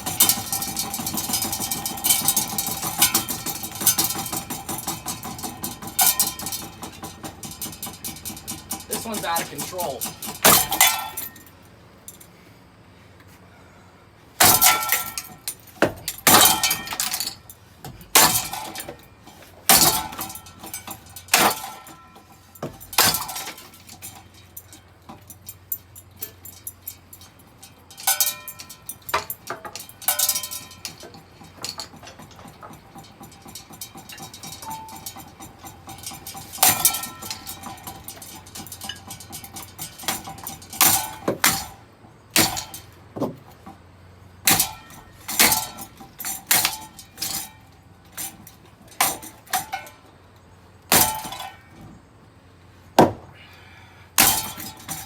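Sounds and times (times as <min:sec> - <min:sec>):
hard blows smashing fan: 0:00.0 - 0:12.2, 0:14.4 - 0:50.0, 0:50.8 - 0:52.1, 0:52.8 - 0:55.0
fan motor humming: 0:00.0 - 0:55.0
glass and plastic breaking: 0:00.1 - 0:11.5, 0:14.4 - 0:27.3, 0:27.9 - 0:43.7, 0:44.4 - 0:50.0, 0:50.9 - 0:51.7, 0:54.2 - 0:55.0.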